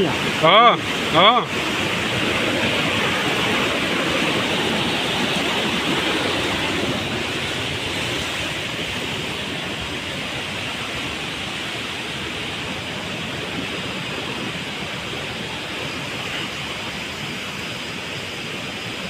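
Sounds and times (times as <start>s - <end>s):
stream and small waterfall rushing: 0.0s - 19.0s.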